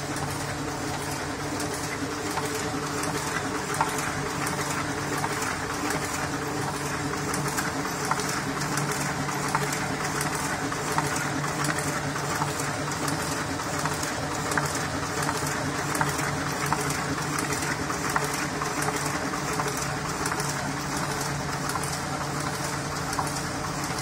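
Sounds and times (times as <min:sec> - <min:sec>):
continuous clatter of clicks: 0:00.0 - 0:24.0
printing press hum: 0:00.0 - 0:24.0.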